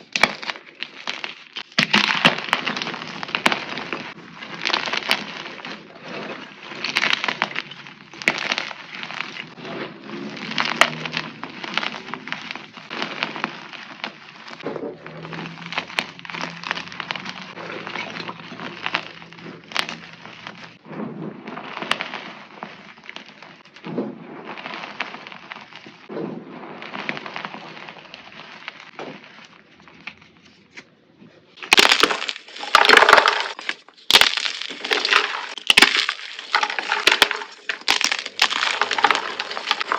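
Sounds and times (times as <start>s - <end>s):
brittle crunching: 0.0s - 20.8s, 21.5s - 26.1s, 26.7s - 30.9s, 31.6s - 39.9s.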